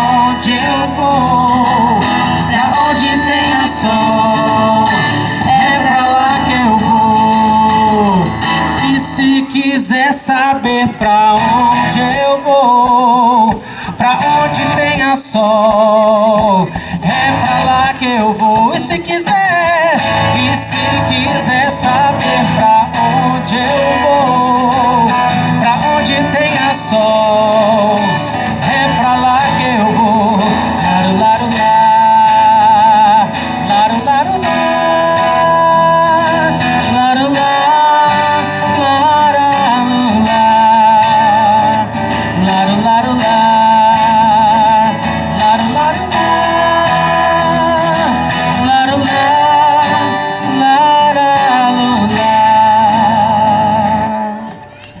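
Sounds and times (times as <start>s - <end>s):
guitar accompaniment: 0.0s - 55.0s
person singing with vibrato: 0.0s - 55.0s.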